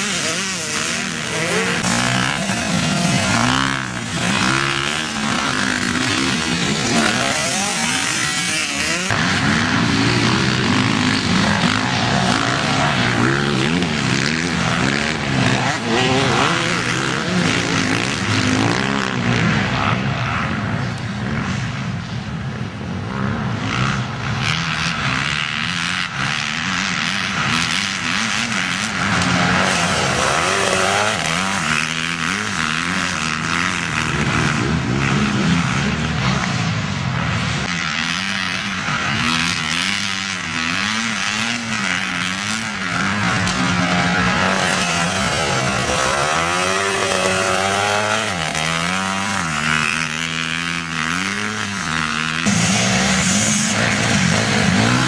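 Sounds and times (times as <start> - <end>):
motorbike engines revving: 0.0 - 55.0.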